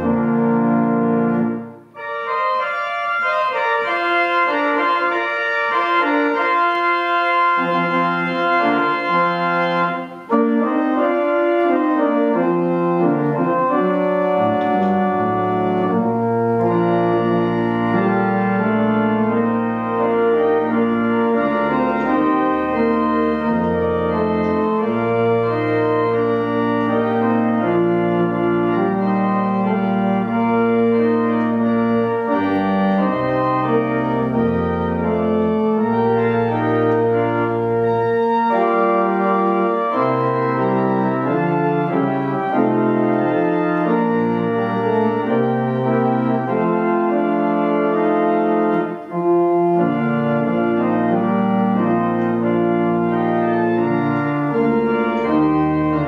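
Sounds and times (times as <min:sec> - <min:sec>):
organ playing chords: 0:00.0 - 0:56.0.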